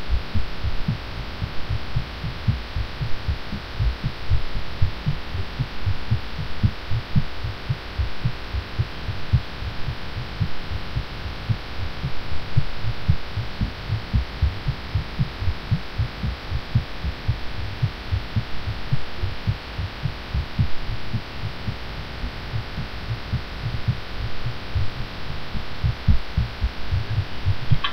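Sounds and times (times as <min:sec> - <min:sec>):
fast heartbeat thumps: 0:00.0 - 0:27.9
steady hiss: 0:00.0 - 0:27.9.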